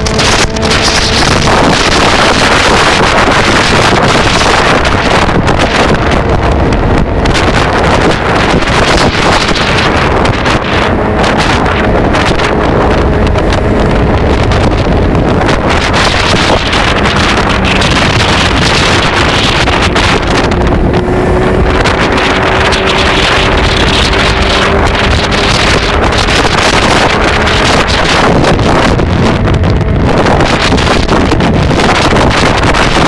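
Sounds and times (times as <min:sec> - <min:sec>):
motorcycle engine at speed: 0:00.0 - 0:33.0
wind buffeting microphone: 0:00.0 - 0:33.0.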